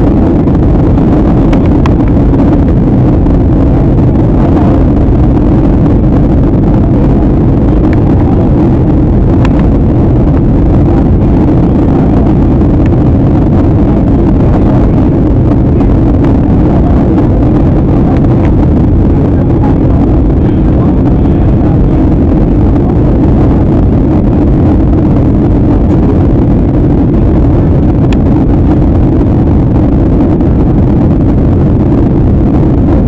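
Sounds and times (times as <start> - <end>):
airliner cabin engine and airflow rush: 0.0 - 33.0.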